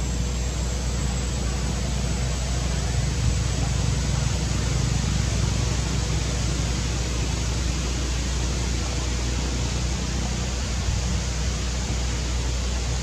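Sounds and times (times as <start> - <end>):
constant low rumble: 0.0 - 13.0
even hiss: 0.0 - 13.0.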